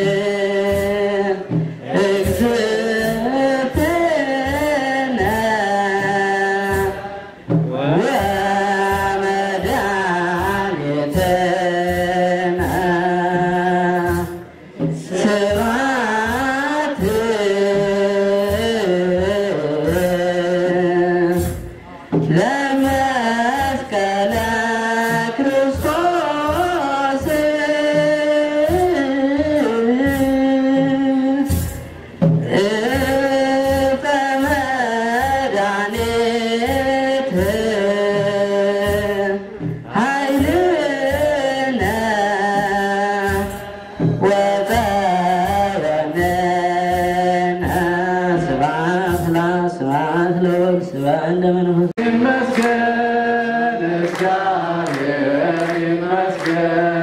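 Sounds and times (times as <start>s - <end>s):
choir singing a hymn: 0.0s - 21.6s, 22.2s - 50.2s, 51.7s - 57.0s
drum beat: 0.0s - 57.0s.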